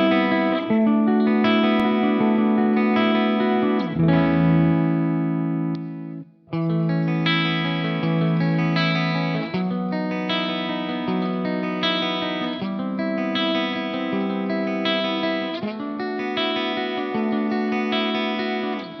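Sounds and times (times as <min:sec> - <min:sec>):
electric guitar chords: 0:00.0 - 0:19.0.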